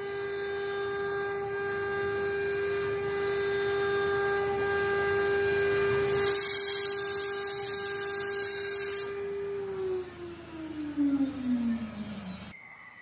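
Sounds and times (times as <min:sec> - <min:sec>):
router spindle whining: 0:00.0 - 0:12.6.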